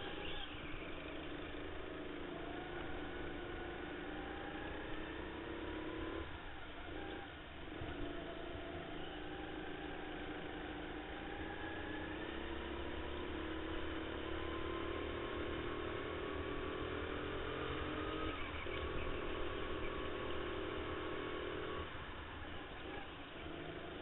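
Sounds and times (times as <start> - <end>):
go-kart engine revving: 0.0 - 24.0.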